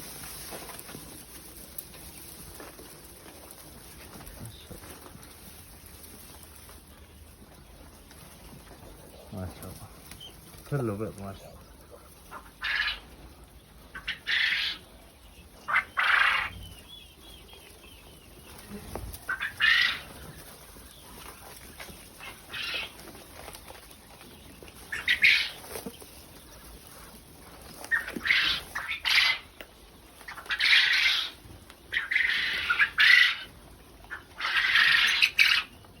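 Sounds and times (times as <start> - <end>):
quail flapping wings and scuffling: 0.0 - 36.0.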